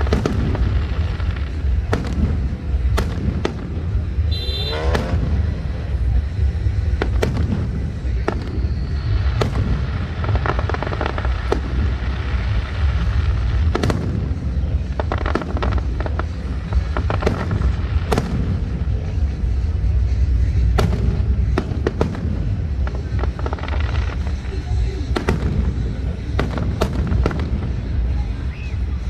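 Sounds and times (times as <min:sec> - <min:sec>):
fireworks booming: 0:00.0 - 0:29.0
fireworks sharp cracks: 0:00.0 - 0:29.0.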